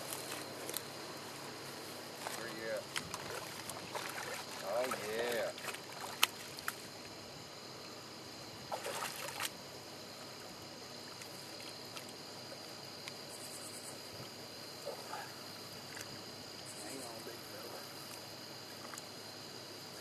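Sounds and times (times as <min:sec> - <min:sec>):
insect chorus chirring: 0:00.0 - 0:20.0.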